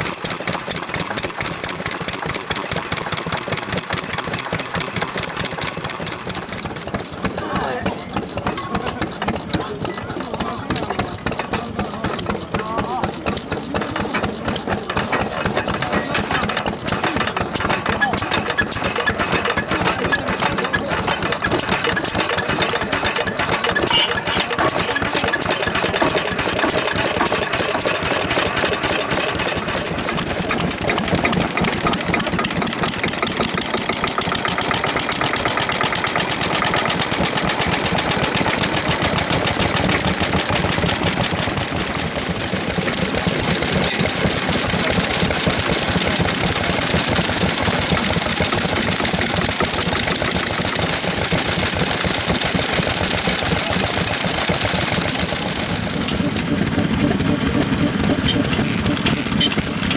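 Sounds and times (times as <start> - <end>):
stationary engines clattering: 0.0 - 59.9.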